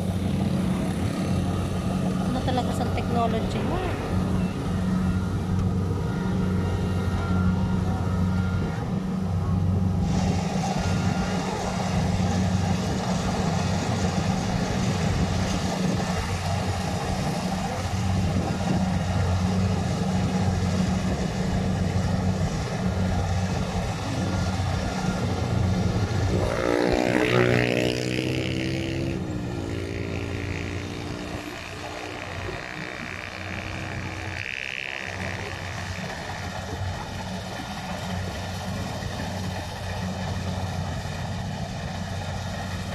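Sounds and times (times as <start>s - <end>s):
combine harvester engine humming: 0.0s - 42.9s
higher engine note: 0.0s - 42.9s.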